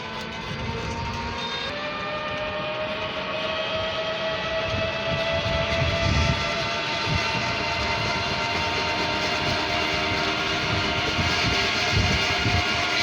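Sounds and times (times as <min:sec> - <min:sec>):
electric train whining: 0:00.0 - 0:13.0
low train rumble: 0:00.0 - 0:13.0.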